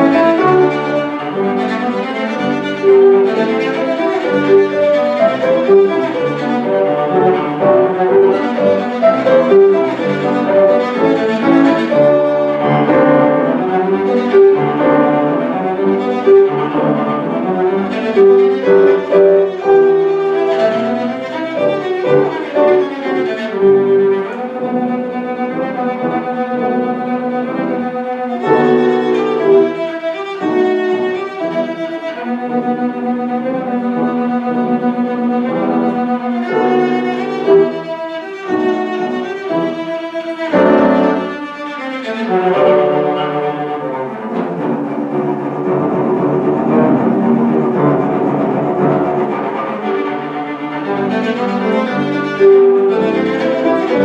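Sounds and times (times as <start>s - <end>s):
cello playing bowed melody: 0.0s - 54.0s
piano accompaniment: 0.0s - 54.0s.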